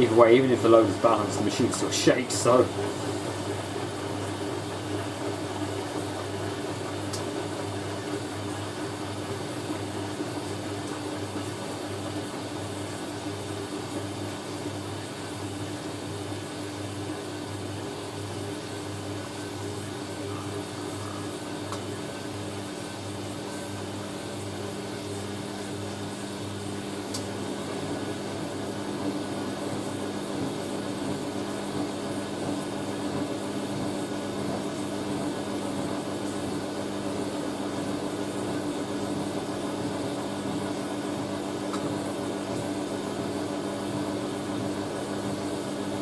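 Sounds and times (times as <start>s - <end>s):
washing machine motor hum: 0.0s - 46.0s.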